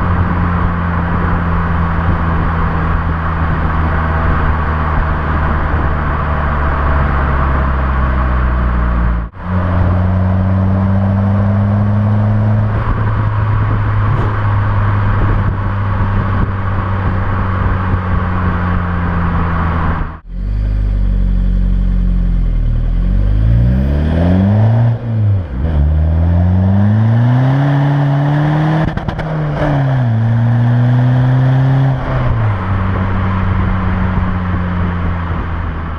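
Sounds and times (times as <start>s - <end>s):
diesel engine running and revving: 0.0s - 35.9s.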